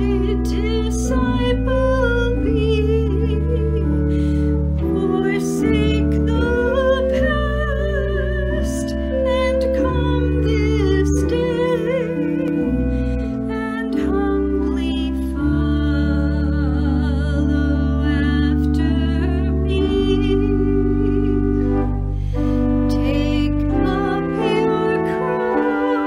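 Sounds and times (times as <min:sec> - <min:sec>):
pipe organ playing a hymn: 0:00.0 - 0:26.0
woman singing with vibrato: 0:00.0 - 0:26.0.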